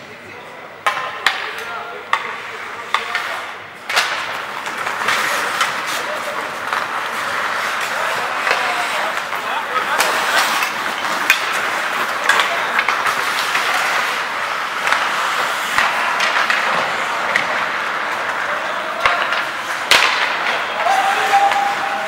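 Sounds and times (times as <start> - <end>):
indistinct voices: 0.0 - 22.0
hockey sticks and puck clacking: 0.8 - 22.0
skates scraping on ice: 1.2 - 22.0.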